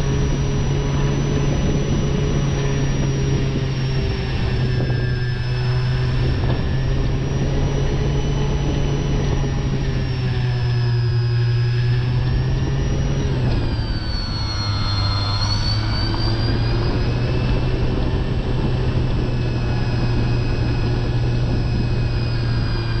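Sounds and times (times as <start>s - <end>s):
loud low hum: 0.0s - 23.0s
model airplane motor whine: 0.0s - 23.0s.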